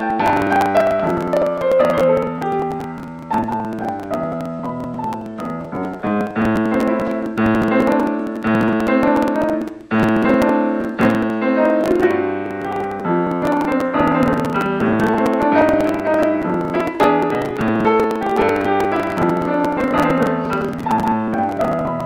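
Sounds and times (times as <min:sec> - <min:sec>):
solo grand piano: 0:00.0 - 0:22.0.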